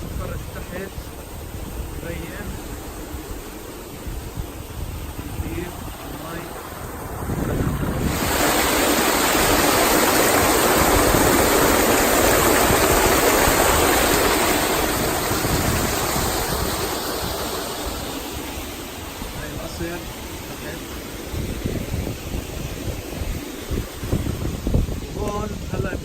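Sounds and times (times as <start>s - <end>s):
water rushing down rocks: 0.0s - 26.0s.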